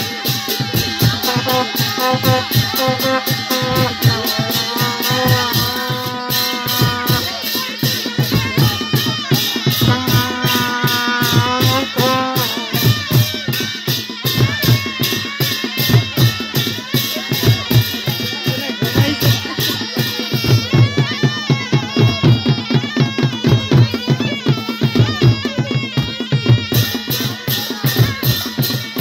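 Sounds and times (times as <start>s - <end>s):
barrel drums and cymbals: 0.0s - 29.0s
double-reed pipe melody: 0.0s - 29.0s.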